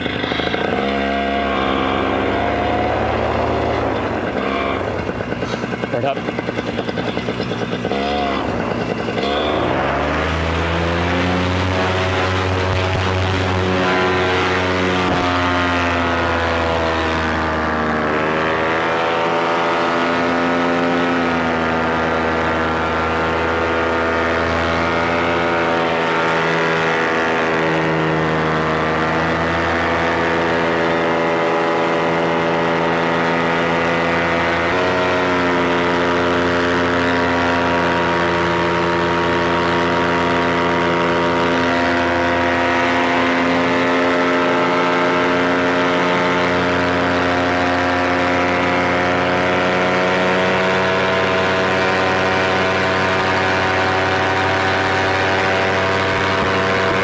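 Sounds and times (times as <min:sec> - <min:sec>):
paramotor engine revving: 0:00.0 - 0:57.0.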